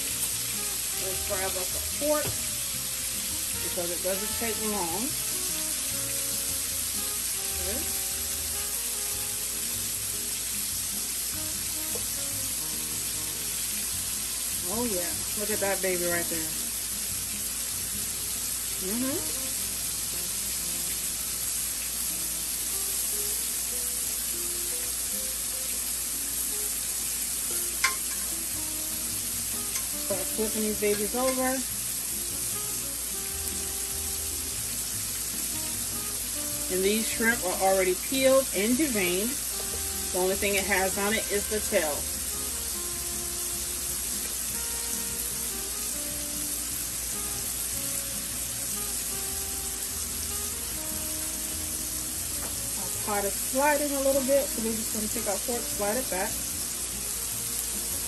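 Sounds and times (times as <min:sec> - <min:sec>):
background music: 0:00.0 - 0:58.0
shrimp sizzling in hot oil: 0:00.0 - 0:58.0.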